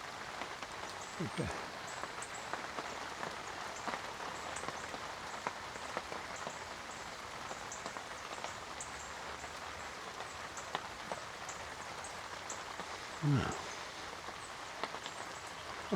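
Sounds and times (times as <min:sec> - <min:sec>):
steady rain hissing: 0:00.0 - 0:15.9.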